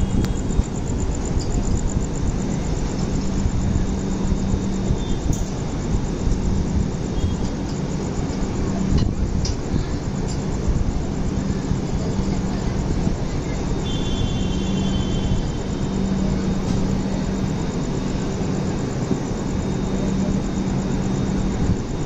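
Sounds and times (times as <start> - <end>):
train rumble and hum: 0.0 - 22.0.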